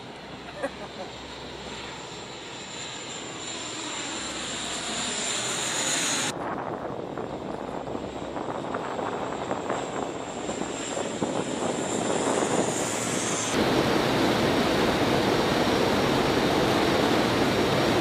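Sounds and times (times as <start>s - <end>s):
engine and airflow rush: 0.0s - 18.0s
high engine whine: 0.0s - 18.0s
propeller plane droning overhead: 0.0s - 18.0s.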